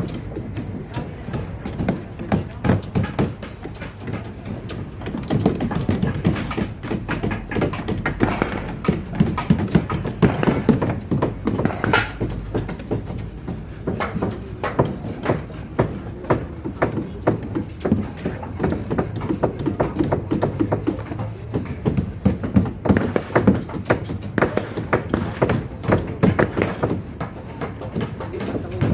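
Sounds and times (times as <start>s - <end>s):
taps and knocks: 0.0s - 28.9s.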